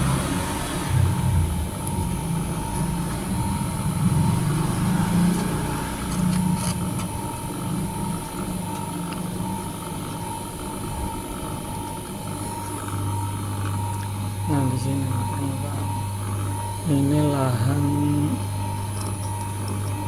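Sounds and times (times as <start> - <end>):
motor running with whine: 0.0 - 20.0.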